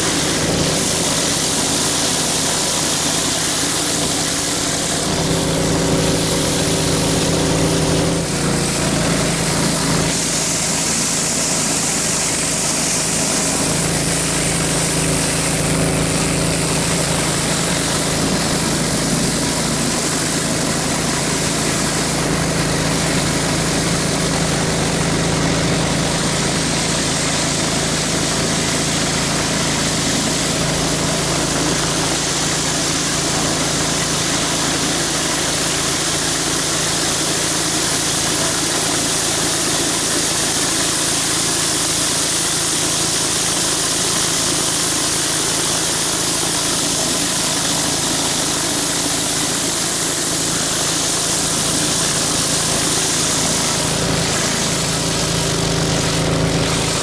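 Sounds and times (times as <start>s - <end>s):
pressure washer engine running: 0.0s - 57.0s
water spraying onto concrete: 0.0s - 57.0s.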